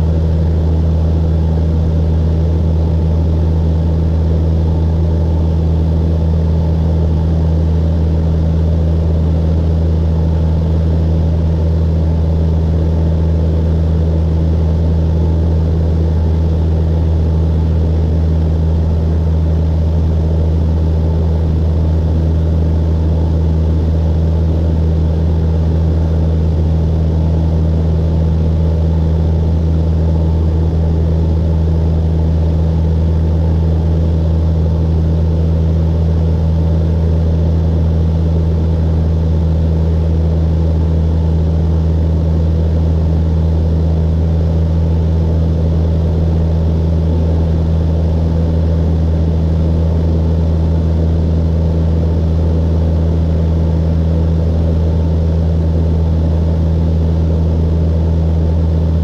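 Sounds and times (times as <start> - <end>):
airplane engine drone in cabin: 0.0 - 59.0.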